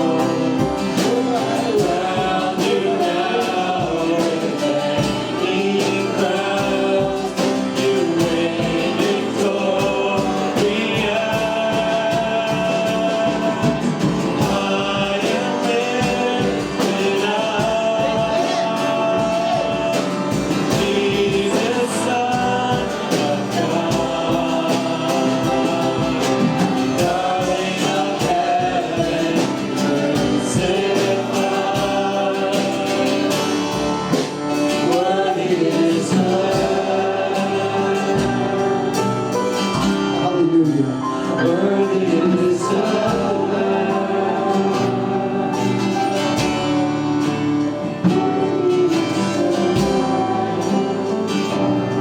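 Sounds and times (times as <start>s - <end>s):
congregation singing worship song: 0.0s - 52.0s
guitar accompaniment: 0.0s - 52.0s.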